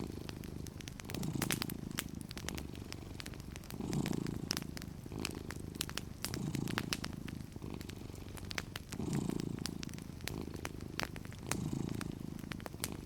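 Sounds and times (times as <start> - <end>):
cat purring: 0.0 - 13.0
fire crackling and popping: 0.0 - 13.0.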